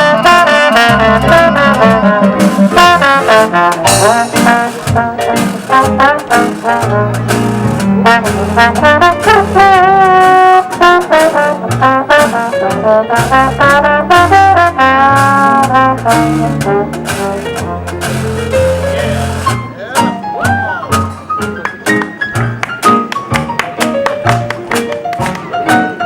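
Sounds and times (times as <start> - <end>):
brass band playing jazz: 0.0 - 26.0.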